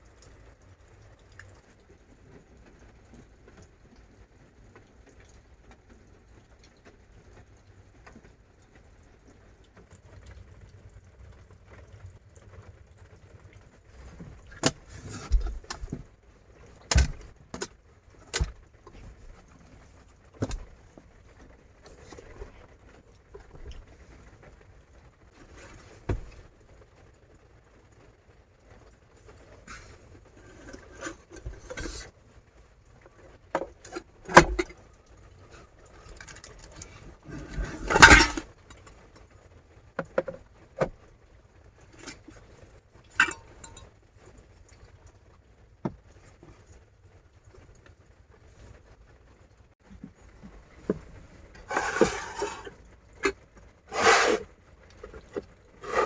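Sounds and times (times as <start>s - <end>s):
faint steady background noise: 0.0s - 56.0s.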